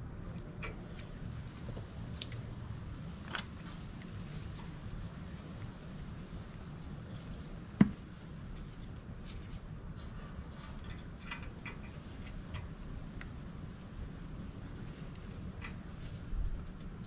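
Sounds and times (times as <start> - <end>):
low steady background rumble: 0.0 - 17.0.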